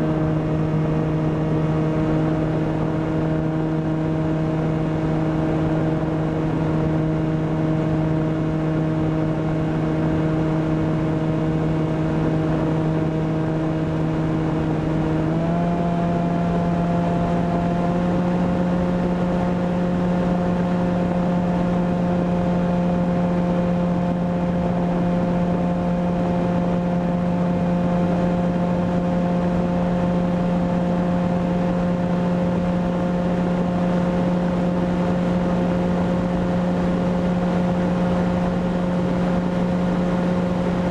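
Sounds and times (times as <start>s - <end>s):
electric motor and propeller humming: 0.0s - 40.9s.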